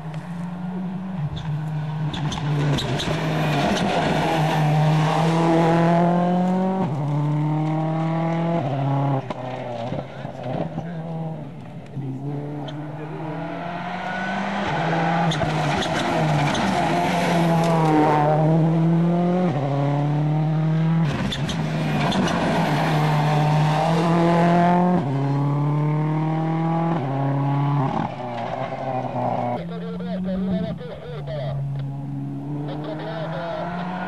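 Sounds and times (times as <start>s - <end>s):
rally car engine revving: 0.0s - 34.0s.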